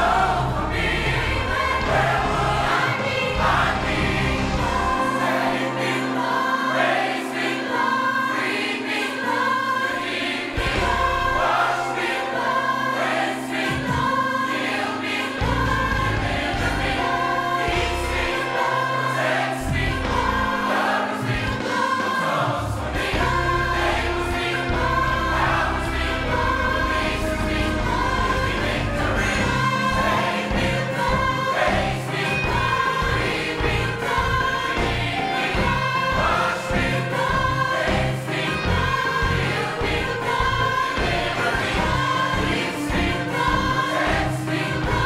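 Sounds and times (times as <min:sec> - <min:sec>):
gospel choir singing: 0:00.0 - 0:45.0.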